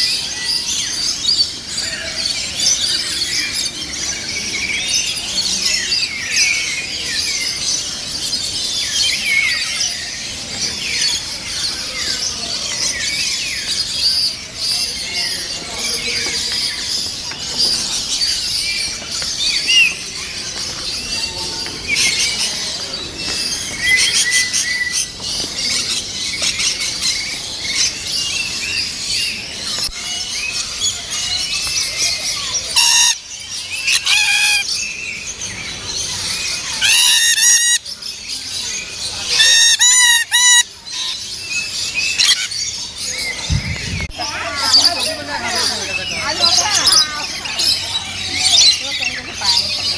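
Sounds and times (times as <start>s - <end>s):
parrots chirping and screeching: 0.0s - 49.9s.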